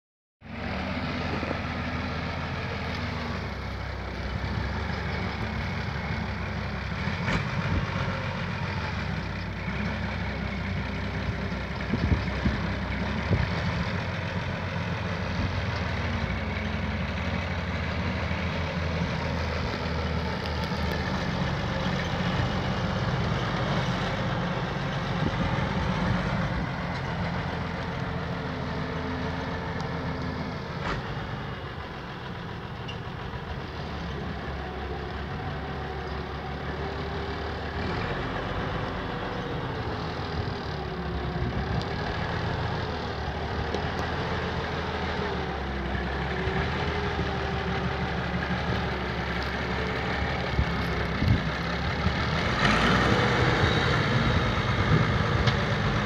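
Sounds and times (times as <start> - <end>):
tractor diesel engine running: 0.4 - 56.0.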